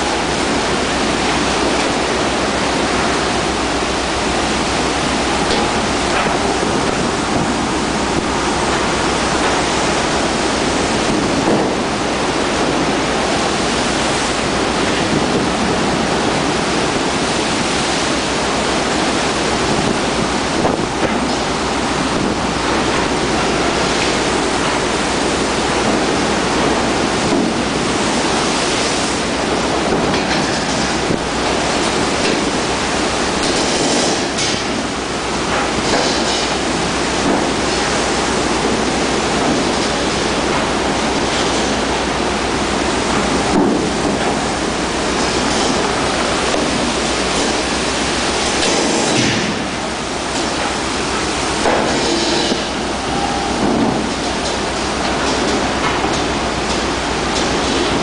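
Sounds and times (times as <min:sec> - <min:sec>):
waves breaking against hull: 0:00.0 - 0:58.0.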